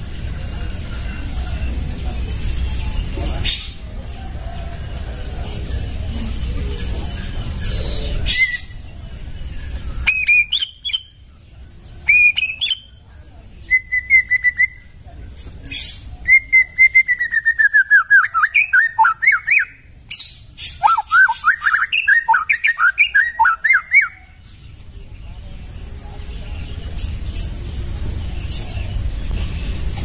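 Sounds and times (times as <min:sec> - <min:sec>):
bird singing whistled notes and trills: 0:00.0 - 0:30.0.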